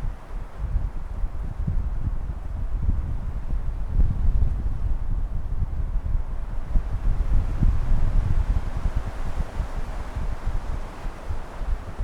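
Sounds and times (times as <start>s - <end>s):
wind buffeting microphone: 0.0s - 12.0s
wind through swaying trees: 0.0s - 12.0s.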